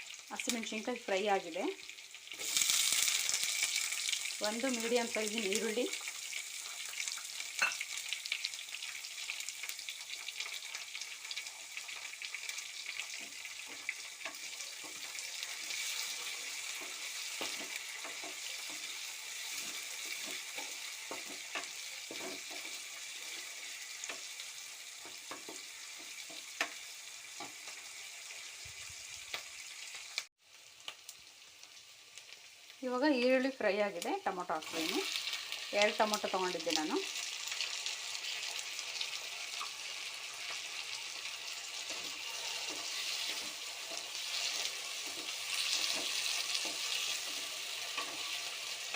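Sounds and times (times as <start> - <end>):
onion sizzling in hot oil: 0.0 - 48.9.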